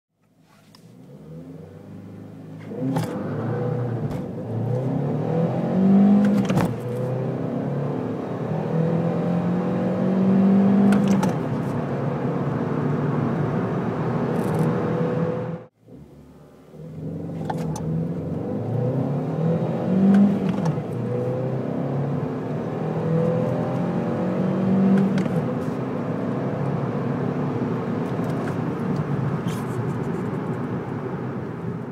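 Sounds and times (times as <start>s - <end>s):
car engine accelerating through gears: 0.9s - 31.9s.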